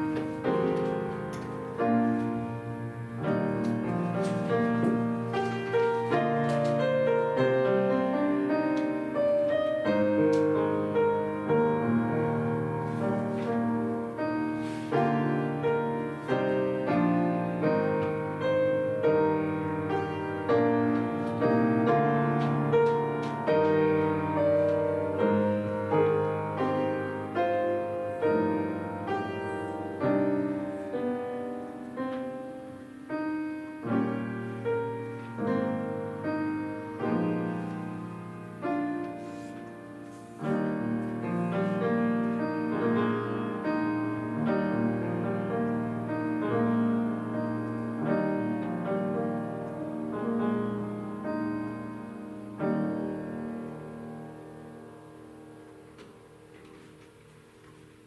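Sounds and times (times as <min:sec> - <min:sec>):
slow gentle piano piece: 0:00.0 - 0:58.0.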